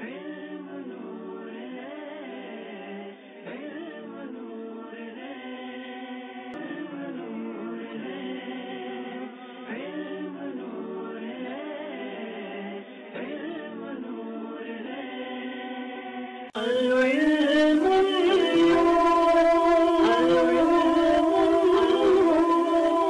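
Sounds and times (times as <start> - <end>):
wordless choir music: 0.0 - 23.0.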